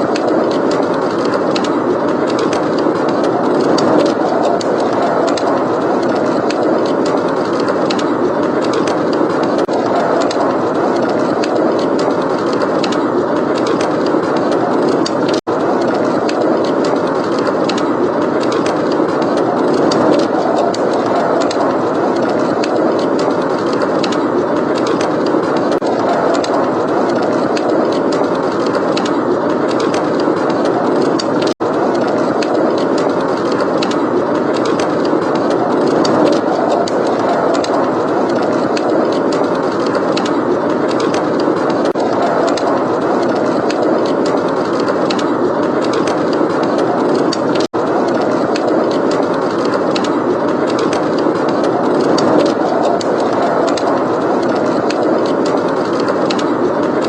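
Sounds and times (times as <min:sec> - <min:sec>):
fireplace crackling: 0:00.0 - 0:56.4
blizzard wind rumbling: 0:00.0 - 0:57.0.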